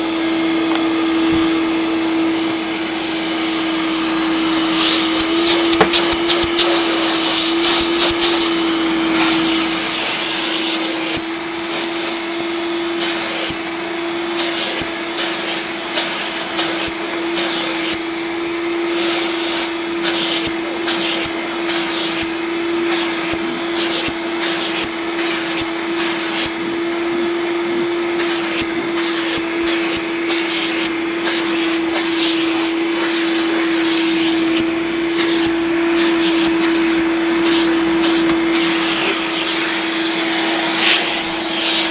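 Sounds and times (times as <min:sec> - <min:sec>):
vacuum cleaner motor whine: 0:00.0 - 0:41.9
vacuum sucking hiss: 0:00.0 - 0:41.9.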